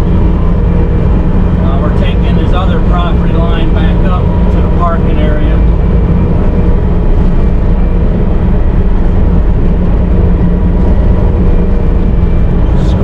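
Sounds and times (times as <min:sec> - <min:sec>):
diesel engine droning: 0:00.0 - 0:13.0
engine whining tones: 0:00.0 - 0:13.0.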